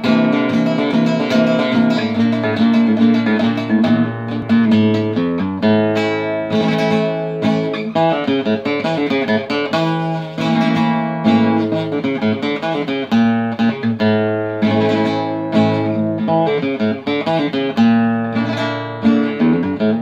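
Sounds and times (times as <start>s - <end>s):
flamenco guitar fingerpicking: 0.0s - 20.0s.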